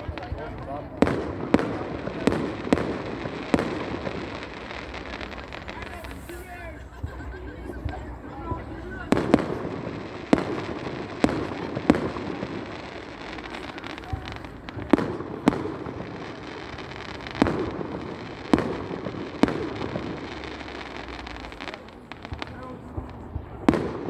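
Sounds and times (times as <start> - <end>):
fireworks bursting bangs: 0.0 - 24.0.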